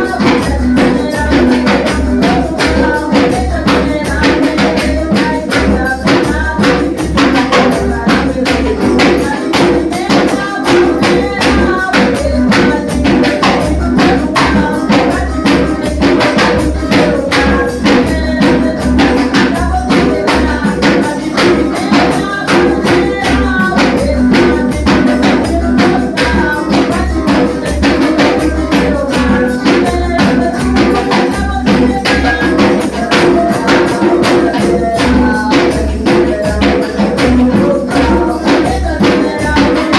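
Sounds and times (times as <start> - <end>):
gospel band music: 0.0 - 39.9
tambourine shaking: 0.0 - 39.9.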